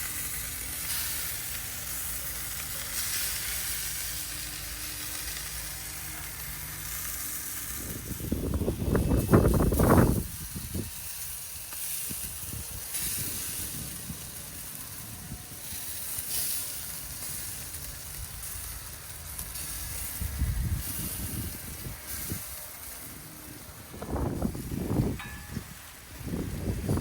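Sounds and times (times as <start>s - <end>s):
meat sizzling on charcoal grill: 0.0s - 27.0s.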